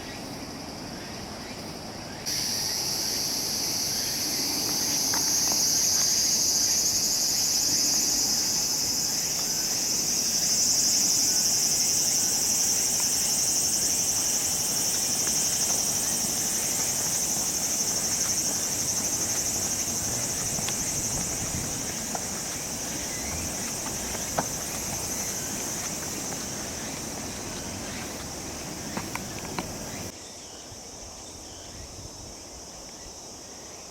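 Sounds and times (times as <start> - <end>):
high-pitched insect chorus: 0.0 - 33.9.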